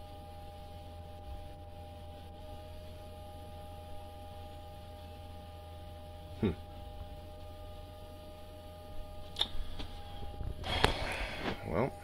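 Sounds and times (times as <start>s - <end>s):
circulation pump humming: 0.0s - 12.0s.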